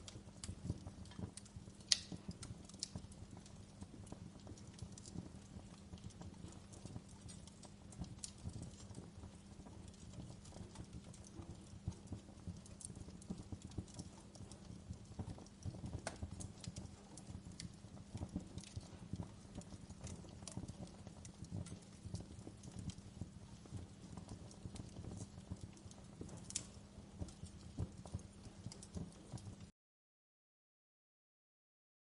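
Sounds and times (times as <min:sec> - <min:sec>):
faint low hum: 0:00.0 - 0:29.7
wood fire crackling: 0:00.0 - 0:29.7.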